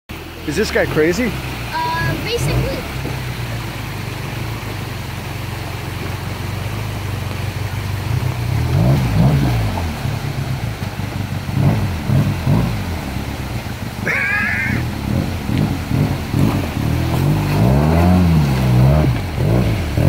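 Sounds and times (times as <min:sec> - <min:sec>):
off-road vehicle engine revving: 0:00.1 - 0:20.0
running water hissing: 0:00.1 - 0:20.0.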